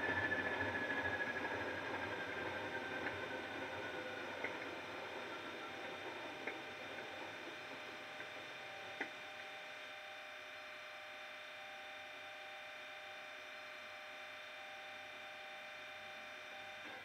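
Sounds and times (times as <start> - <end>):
model locomotive engine hum: 0.0 - 17.0.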